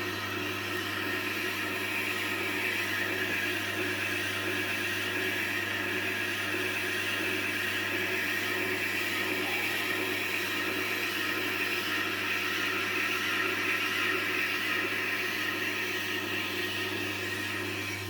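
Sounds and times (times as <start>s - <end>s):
grinder motor hum: 0.0s - 18.0s.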